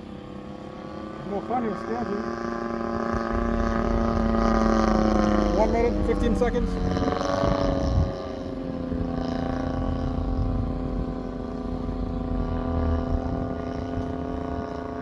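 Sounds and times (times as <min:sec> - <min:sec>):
model airplane engine droning: 0:00.0 - 0:15.0.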